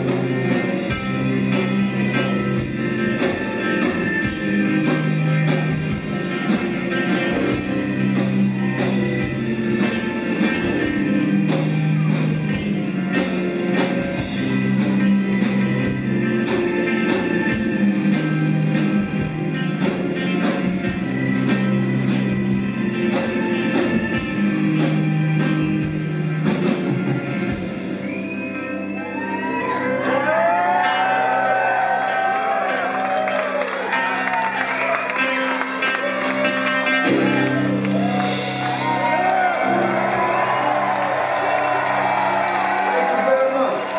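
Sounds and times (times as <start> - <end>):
bass line: 0.0 - 43.9
electric guitar: 0.0 - 43.9
steady drums: 0.0 - 43.9.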